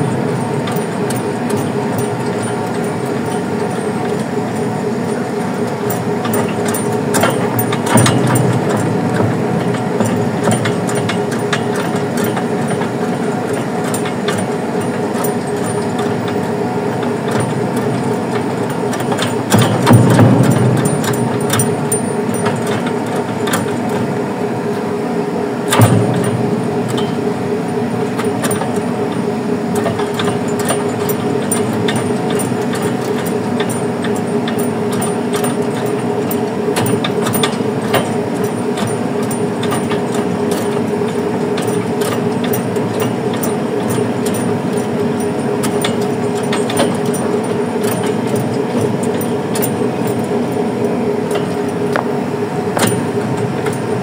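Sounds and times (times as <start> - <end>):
boat machinery humming: 0.0 - 54.0.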